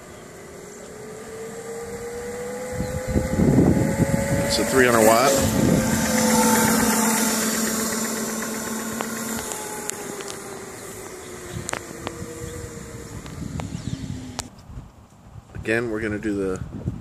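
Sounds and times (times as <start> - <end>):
electric motors whining: 0.0 - 14.5
steady hum: 0.0 - 14.5.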